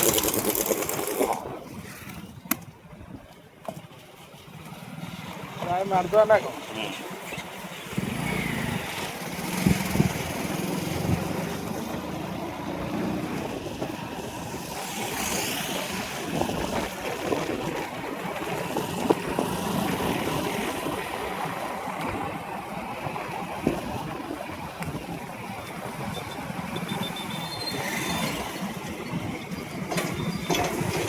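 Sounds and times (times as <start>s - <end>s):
road noise: 0.0s - 31.0s
vehicle engine drone: 4.3s - 31.0s.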